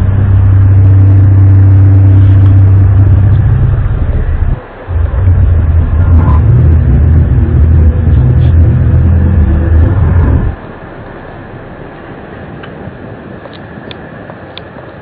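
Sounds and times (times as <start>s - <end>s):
low droning rumble: 0.0s - 15.0s.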